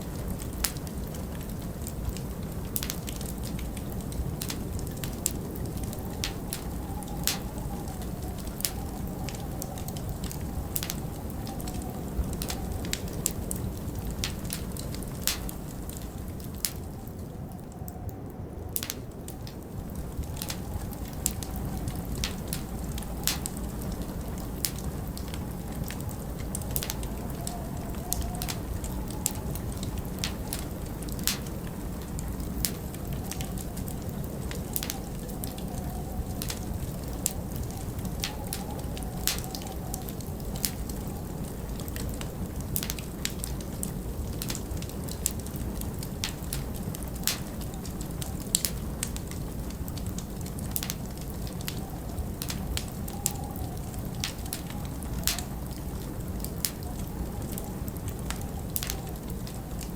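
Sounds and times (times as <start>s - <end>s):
log fire crackling and popping: 0.0s - 59.9s
low rush of wind: 0.0s - 59.9s.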